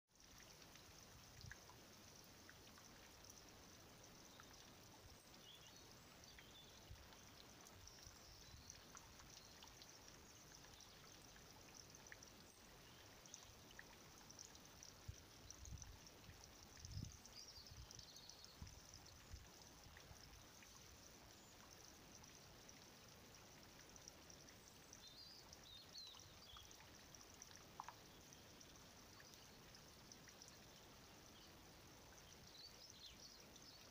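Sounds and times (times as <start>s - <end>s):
faint outdoor hiss: 0.1s - 33.9s.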